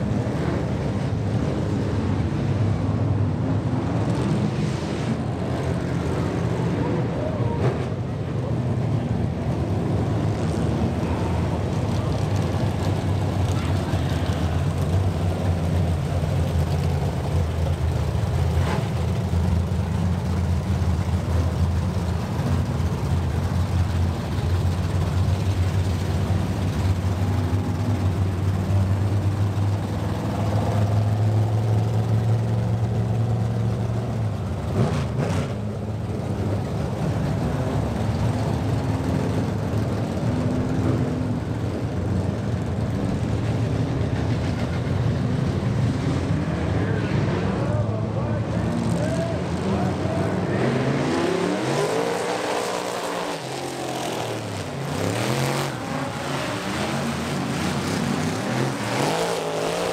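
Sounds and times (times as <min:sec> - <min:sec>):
race truck engines running: 0:00.0 - 0:59.9.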